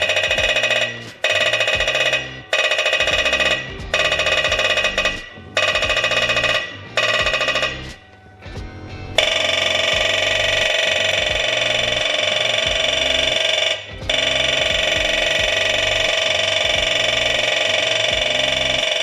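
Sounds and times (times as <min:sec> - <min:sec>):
marking gun buzzing: 0:00.0 - 0:08.2, 0:09.2 - 0:19.0.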